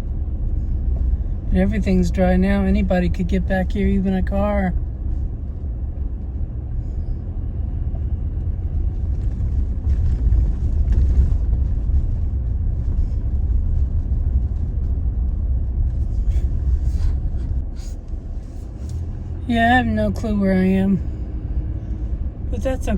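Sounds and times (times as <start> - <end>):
pickup truck engine and tyres rumble: 0.0 - 22.9.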